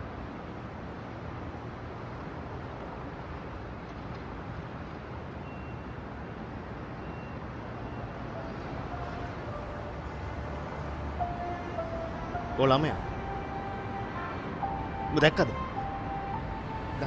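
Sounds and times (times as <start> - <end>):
heavy trucks passing: 0.0 - 17.0
road traffic rumble: 0.0 - 17.0.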